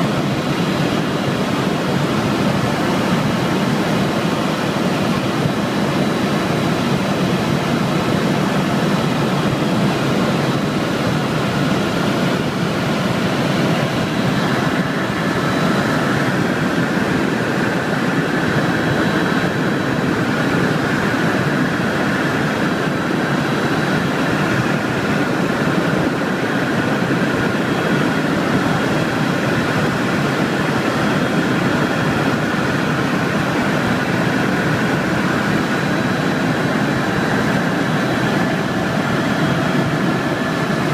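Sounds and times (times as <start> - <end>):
helicopter engine and rotor noise: 0.0 - 40.9
thin high whine: 0.0 - 40.9.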